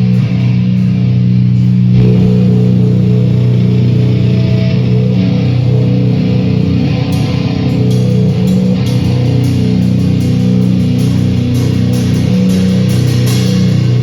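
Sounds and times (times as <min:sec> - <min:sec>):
cymbal strokes: 0:00.0 - 0:14.0
rock band music: 0:00.0 - 0:14.0.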